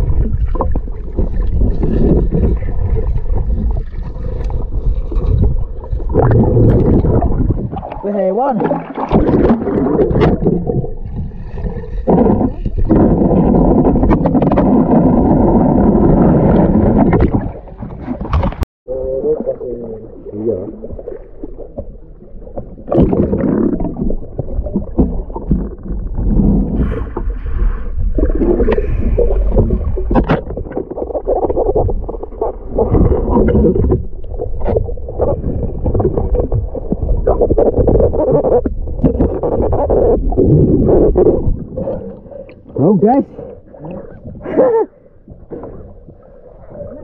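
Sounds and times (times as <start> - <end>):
muffled underwater water sloshing: 0.0 - 47.0.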